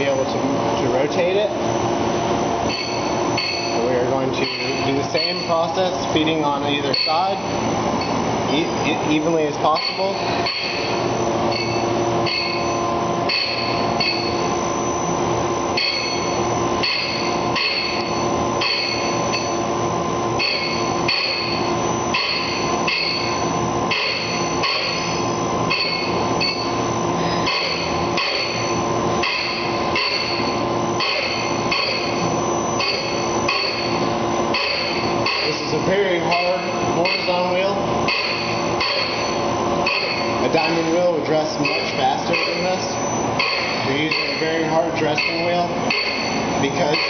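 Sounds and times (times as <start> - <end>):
machine spindles humming: 0.0 - 47.0.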